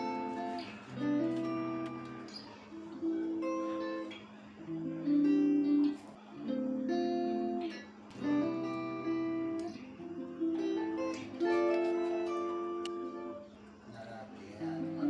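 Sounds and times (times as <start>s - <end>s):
acoustic guitar strumming chords: 0.0s - 13.7s.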